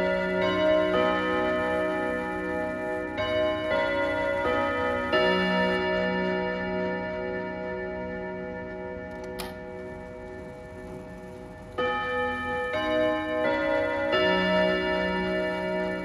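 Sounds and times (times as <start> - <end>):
clock chime on gong rods: 0.0 - 16.0.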